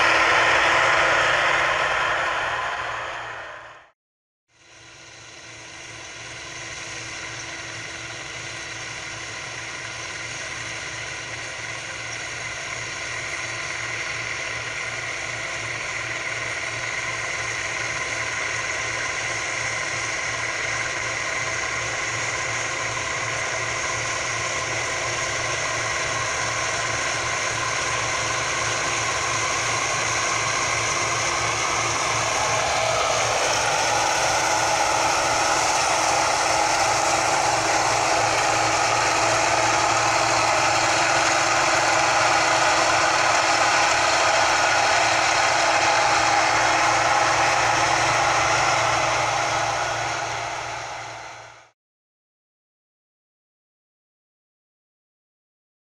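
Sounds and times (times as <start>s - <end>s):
combine harvester running: 0.0s - 3.9s, 4.7s - 51.7s.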